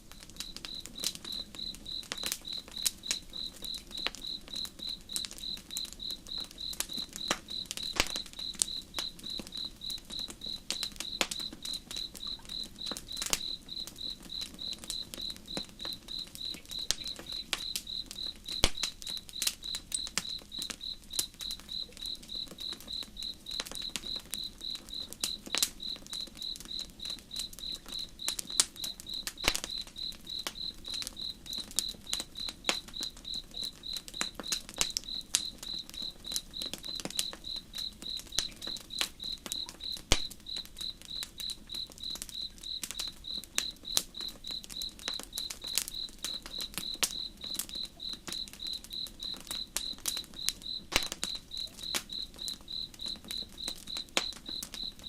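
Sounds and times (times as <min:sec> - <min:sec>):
campfire crackling: 0:00.0 - 0:55.0
cricket chirping: 0:00.0 - 0:55.0.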